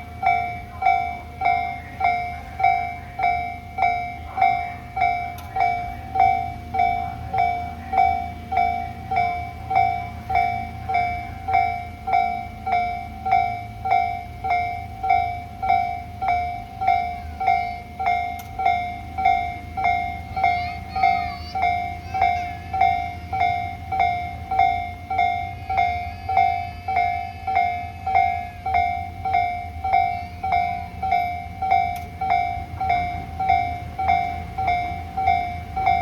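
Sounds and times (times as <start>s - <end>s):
level-crossing warning bell: 0.0s - 36.0s
low rumble of a train: 0.0s - 36.0s.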